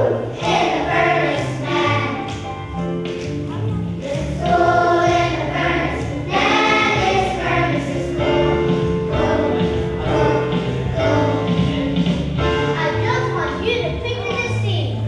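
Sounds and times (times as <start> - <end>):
children's choir singing: 0.0 - 13.1
instrumental accompaniment: 0.0 - 15.0.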